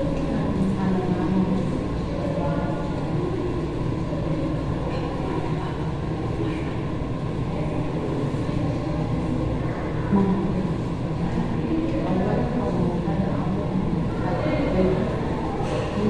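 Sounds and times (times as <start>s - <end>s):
faint voices: 0.0s - 16.0s
low rumbling noise: 0.0s - 16.0s.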